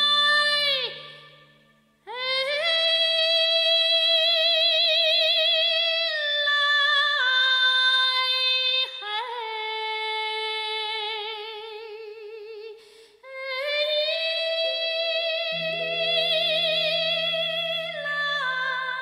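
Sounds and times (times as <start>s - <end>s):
soprano singing with vibrato: 0.0s - 19.0s.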